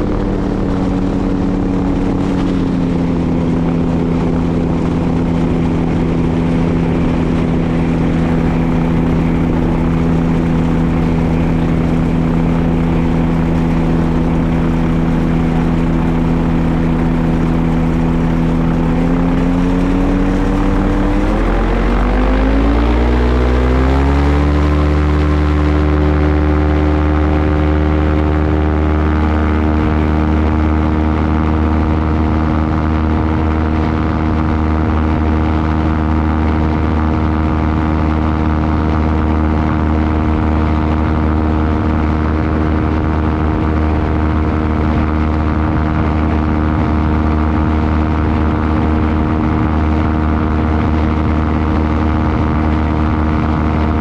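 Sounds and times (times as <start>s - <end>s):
propeller engine running: 0.0s - 54.0s.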